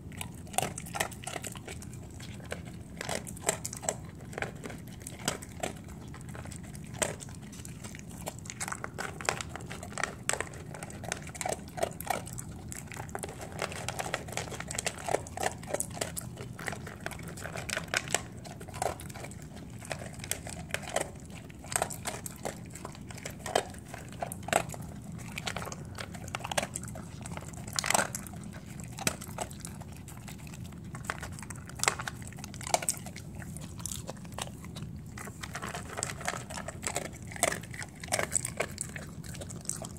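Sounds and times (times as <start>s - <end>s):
dog crunching dry kibble: 0.0s - 39.9s.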